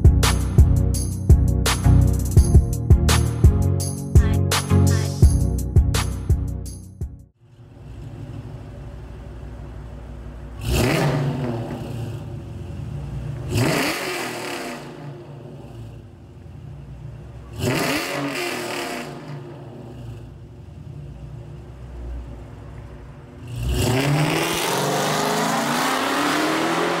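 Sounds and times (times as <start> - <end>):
car engine idling and revving: 0.0 - 3.7, 7.3 - 27.0.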